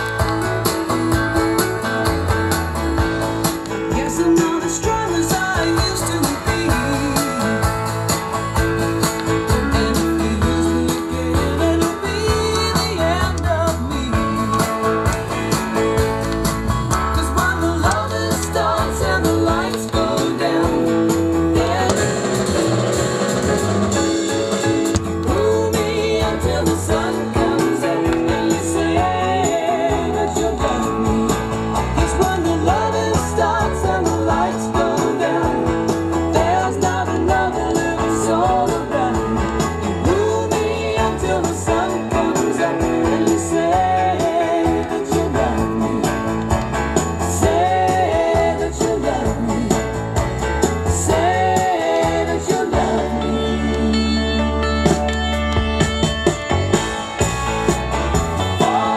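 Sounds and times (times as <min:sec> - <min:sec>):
guitar music: 0:00.0 - 0:58.9
person singing: 0:03.7 - 0:08.4, 0:09.0 - 0:15.4, 0:16.9 - 0:46.5, 0:47.3 - 0:50.1, 0:50.8 - 0:55.2, 0:58.4 - 0:58.9.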